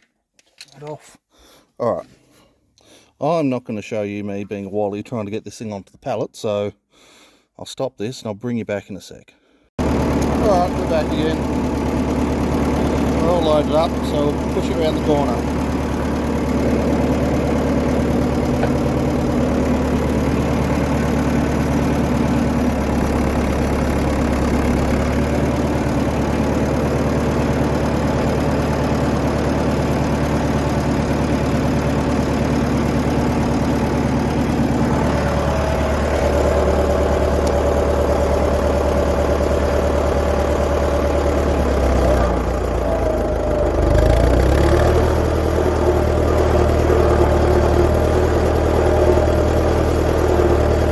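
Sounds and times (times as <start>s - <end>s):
tractor engine running: 9.8s - 50.9s.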